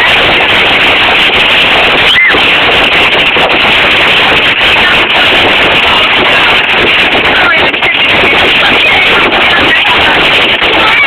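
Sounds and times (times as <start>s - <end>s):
hail clattering: 0.0s - 11.0s.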